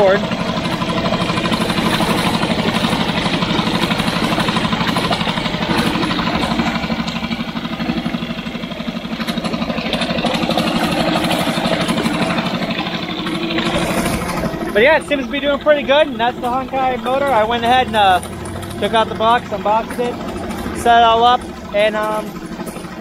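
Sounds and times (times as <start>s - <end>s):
outboard motor running: 0.0s - 23.0s
propeller churning water: 0.0s - 23.0s.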